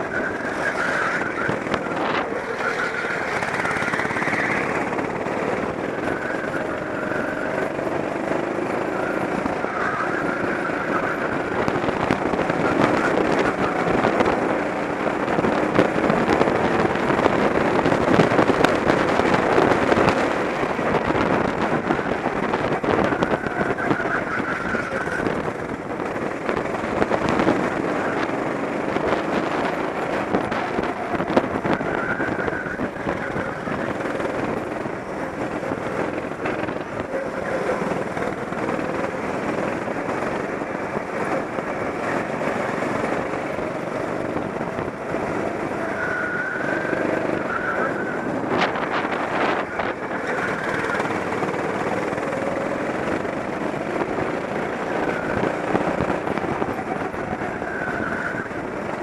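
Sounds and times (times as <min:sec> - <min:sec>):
go-kart engine running: 0:00.0 - 0:59.0
other karts running: 0:00.0 - 0:59.0.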